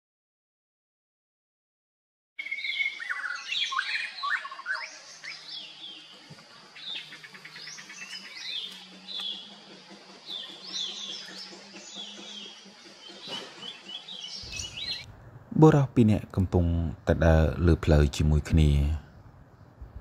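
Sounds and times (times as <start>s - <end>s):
birds chirping: 2.4s - 20.0s.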